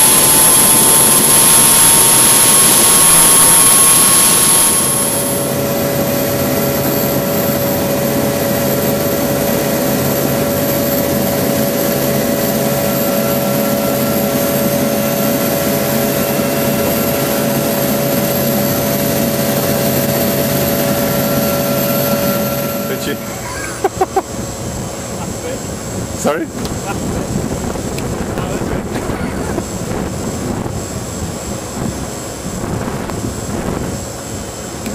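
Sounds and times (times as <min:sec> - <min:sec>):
helicopter engines and rotors: 0:00.0 - 0:34.9.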